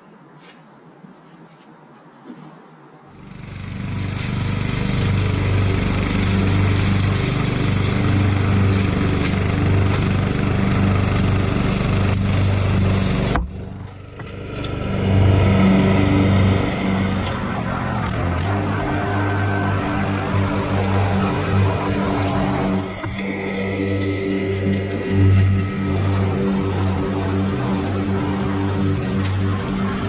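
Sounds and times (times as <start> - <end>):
riding lawn mower engine: 3.2 - 30.0.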